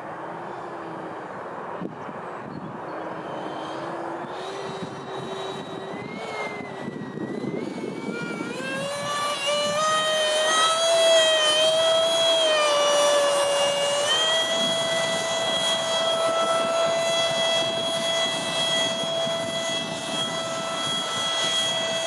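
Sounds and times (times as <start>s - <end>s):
electric ducted fan whining: 0.0s - 22.0s
rushing wind noise: 3.6s - 22.0s.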